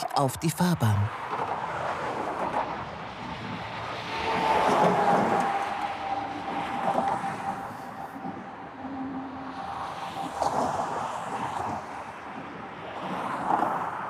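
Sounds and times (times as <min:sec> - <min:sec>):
motorway traffic passing: 0:00.0 - 0:13.0.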